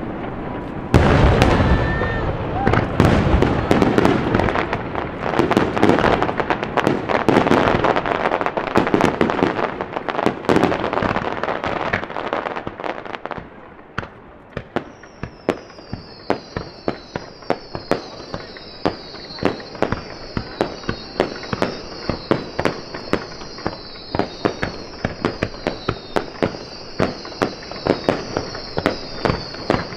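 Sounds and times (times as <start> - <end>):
fireworks whistles gliding down: 0.0 - 13.4, 14.0 - 29.9
fireworks bangs and crackling: 0.0 - 29.9.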